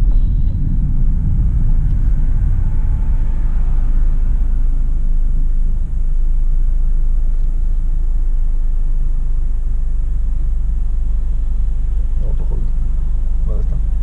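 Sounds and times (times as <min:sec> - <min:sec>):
car engine idling in cabin: 0:00.0 - 0:14.0.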